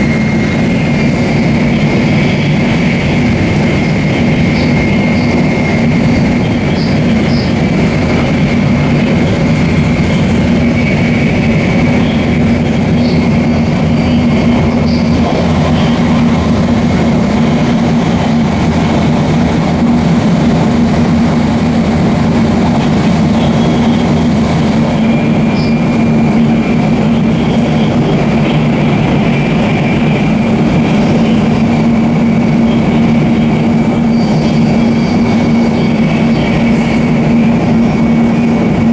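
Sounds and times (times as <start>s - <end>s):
train running at speed: 0.0s - 38.9s.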